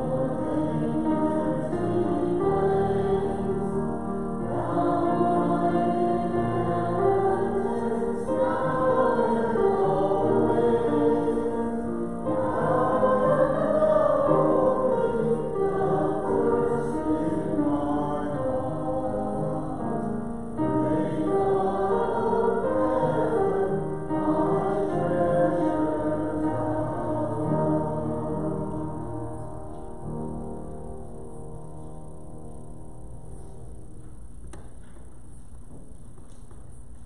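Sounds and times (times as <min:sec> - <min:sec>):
choir singing sacred music: 0:00.0 - 0:34.0.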